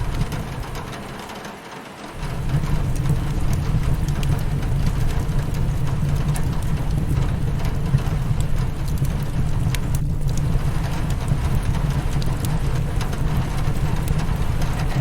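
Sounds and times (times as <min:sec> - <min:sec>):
wood fire crackling: 0:00.0 - 0:01.4, 0:02.1 - 0:15.0
rain on a window: 0:00.0 - 0:15.0.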